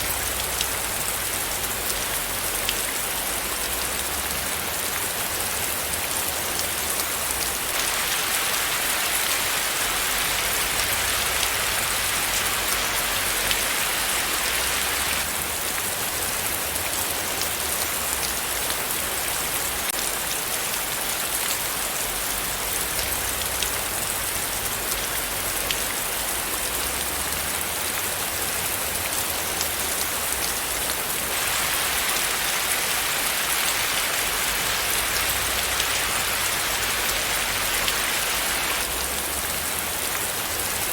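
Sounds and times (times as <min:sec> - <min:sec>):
rain on a hard surface: 0:00.0 - 0:40.9.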